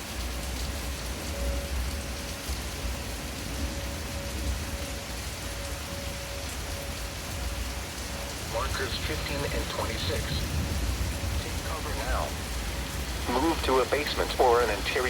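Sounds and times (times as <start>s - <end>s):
faint steady tone: 0.0s - 15.0s
heavy rain hiss: 0.0s - 15.0s.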